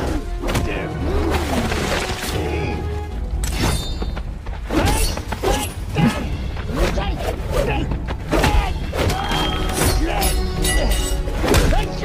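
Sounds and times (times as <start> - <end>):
action film music: 0.0 - 12.0.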